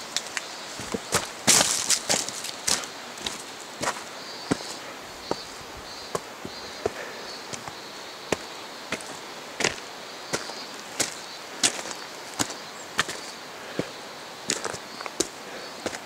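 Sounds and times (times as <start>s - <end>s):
steady hiss: 0.0s - 16.0s
footsteps on rocky trail: 0.7s - 16.0s.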